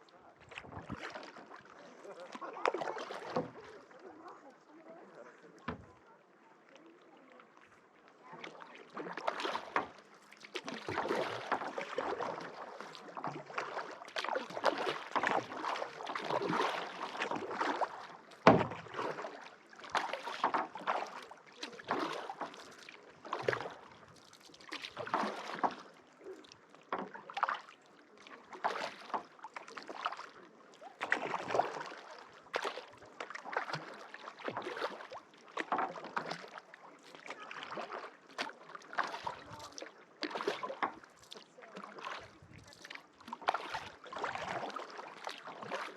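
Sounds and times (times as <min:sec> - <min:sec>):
paddle strokes in water: 0:00.0 - 0:45.9.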